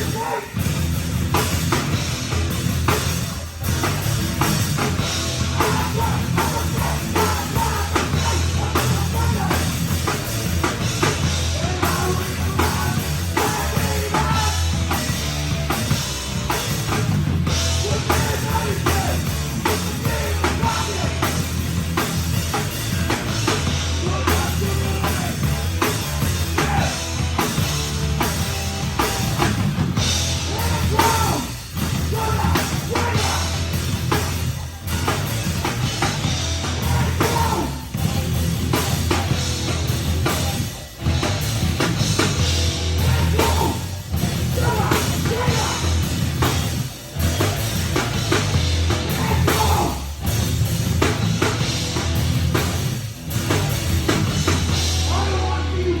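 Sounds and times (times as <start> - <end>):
live rock band playing: 0.0 - 56.0
pounding drum kit: 0.0 - 56.0.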